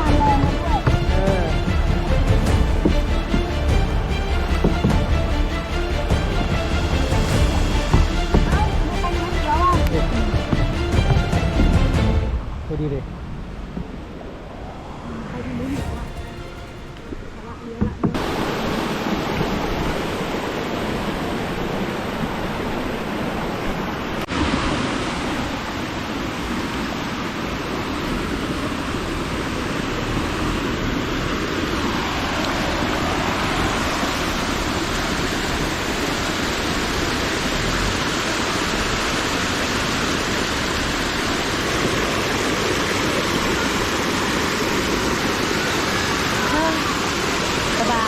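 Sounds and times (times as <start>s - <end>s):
waterfall rushing: 0.0s - 13.6s, 14.2s - 48.0s.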